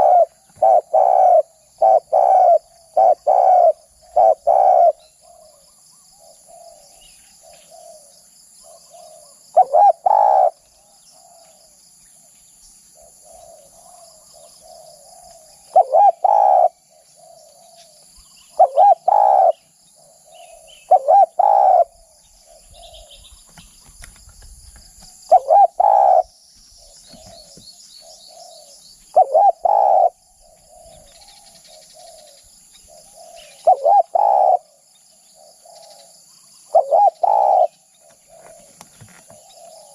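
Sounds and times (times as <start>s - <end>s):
dove cooing: 0.0s - 11.8s, 13.0s - 39.9s.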